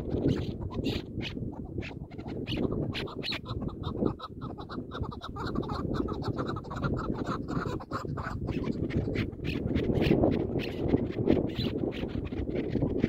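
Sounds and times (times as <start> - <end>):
partridges chucking calls: 0.0 - 13.0.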